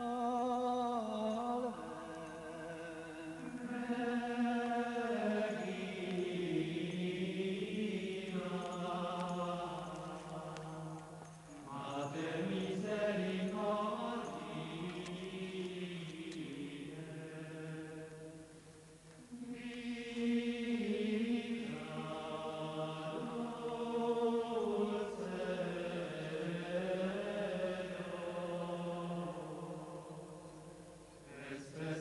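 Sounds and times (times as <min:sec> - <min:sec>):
choir singing a slow chant: 0:00.0 - 0:32.0.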